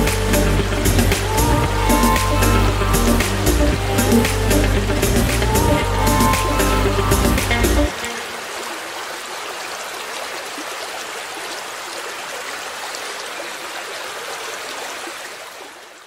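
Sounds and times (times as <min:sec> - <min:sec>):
water rushing in a stream: 0:00.0 - 0:16.0.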